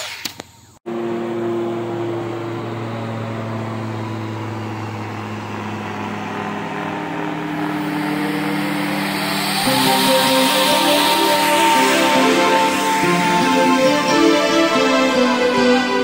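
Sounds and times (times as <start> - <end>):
electric ducted fans whining: 0.4 - 16.0.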